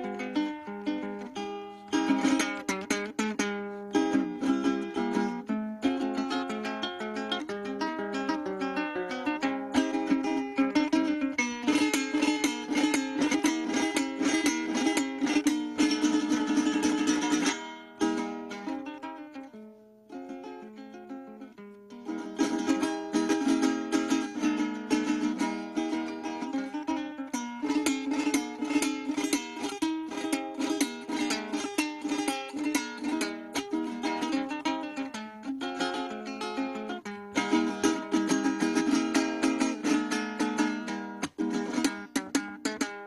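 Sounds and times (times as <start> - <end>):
plucked string instrument: 0.0 - 43.0.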